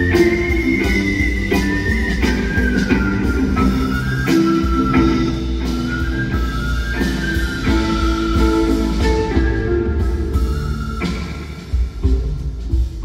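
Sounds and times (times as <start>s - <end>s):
live band playing instrumental: 0.0s - 13.0s.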